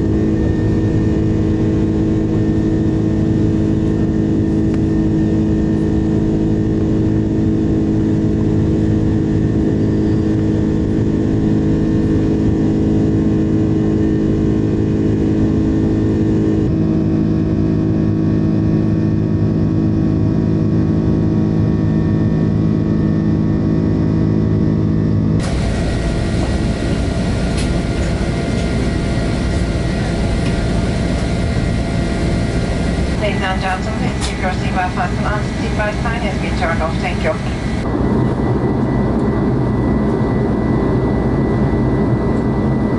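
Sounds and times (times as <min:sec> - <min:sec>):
jet engine drone in cabin: 0:00.0 - 0:42.9.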